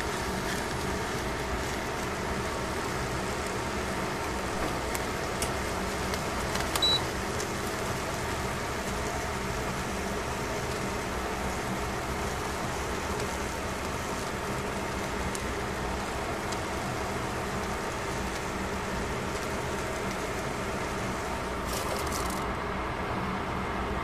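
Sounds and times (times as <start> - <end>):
fish sizzling in a pan: 0.0 - 22.5
small crackles: 0.0 - 22.5.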